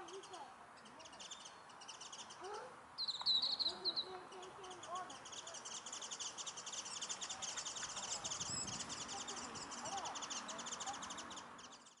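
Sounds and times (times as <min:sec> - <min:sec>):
songbirds twittering: 0:00.0 - 0:12.0.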